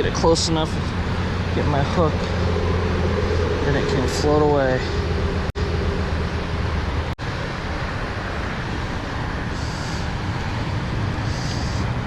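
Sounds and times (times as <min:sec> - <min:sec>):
low outdoor rumbling: 0:00.0 - 0:12.0.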